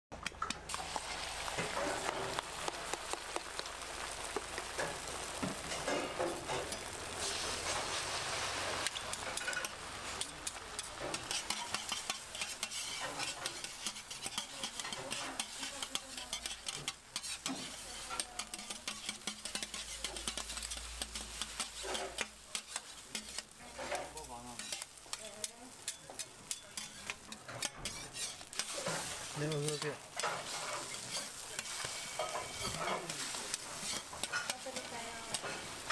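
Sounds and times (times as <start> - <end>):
egg sizzling on griddle: 0.2 - 35.9
metal spatula scraping griddle: 1.5 - 2.4, 3.7 - 35.9.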